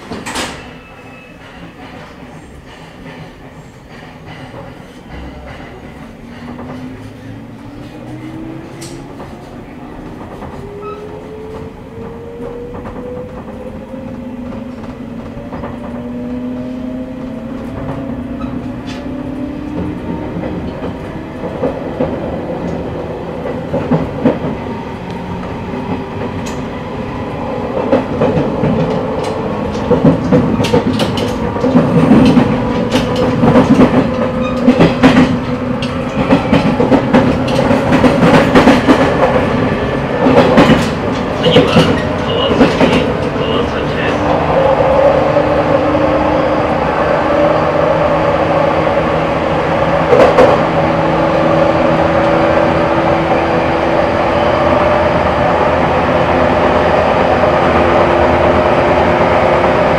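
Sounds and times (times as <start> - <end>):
rail joints clacking: 0.0 - 59.9
train running noise: 0.0 - 59.9.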